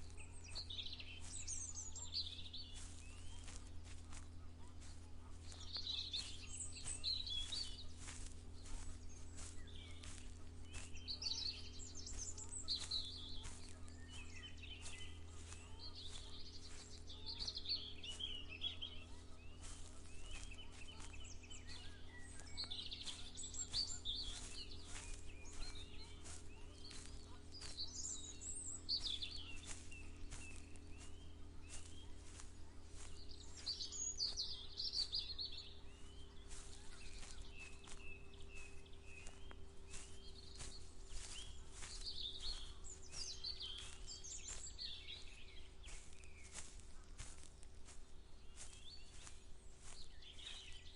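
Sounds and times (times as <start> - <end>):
birds singing: 0.0 - 50.9
footsteps walking: 0.0 - 50.9
steady low hum: 0.0 - 50.9.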